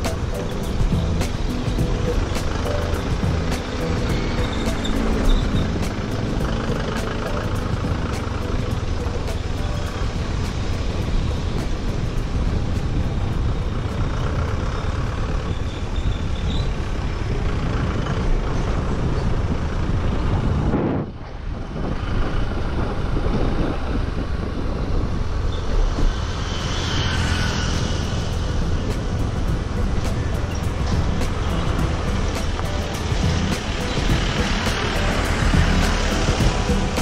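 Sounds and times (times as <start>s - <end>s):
tyre and road noise: 0.0s - 37.0s
wind rushing over microphone: 0.0s - 37.0s.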